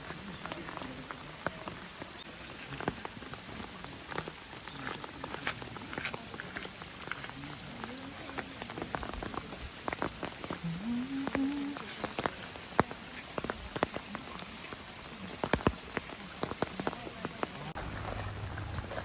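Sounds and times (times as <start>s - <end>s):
heavy rain hiss: 0.0s - 19.0s
raindrops striking close by: 0.0s - 19.0s.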